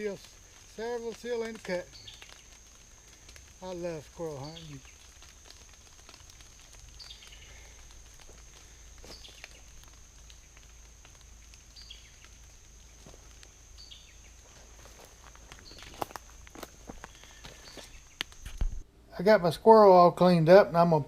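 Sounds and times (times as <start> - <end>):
high insect drone: 0.0 - 18.8.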